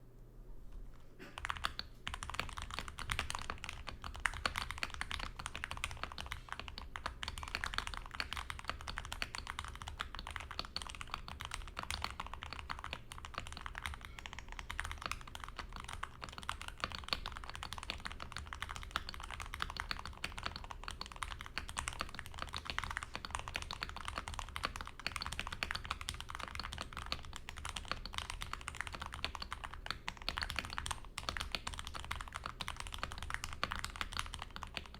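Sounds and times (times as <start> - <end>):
typing on mechanical keyboard: 1.2 - 34.9.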